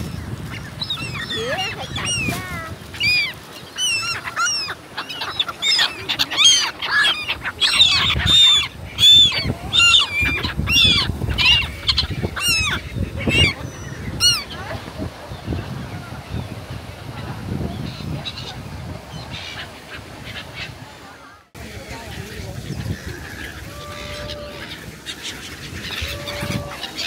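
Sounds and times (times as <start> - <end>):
gulls calling: 0.0 - 27.0.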